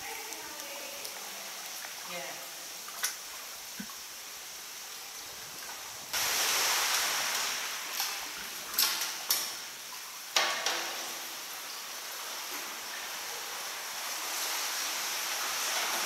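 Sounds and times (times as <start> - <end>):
sea water splashing and sloshing: 0.0 - 16.0.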